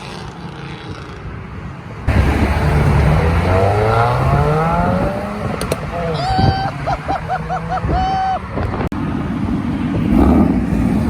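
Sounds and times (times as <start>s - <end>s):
car engine accelerating hard: 2.1s - 11.0s.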